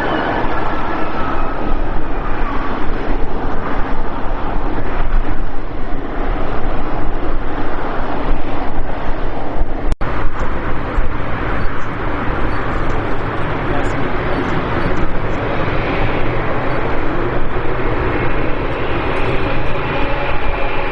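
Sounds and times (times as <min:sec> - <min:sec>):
jet engine rush: 0:00.0 - 0:20.9.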